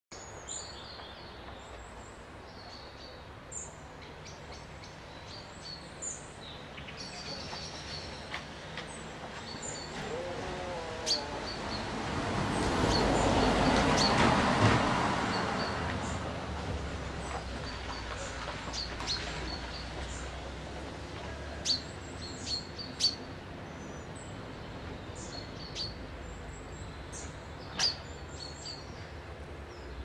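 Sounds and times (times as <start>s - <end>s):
songbirds chirping: 0.1s - 30.0s.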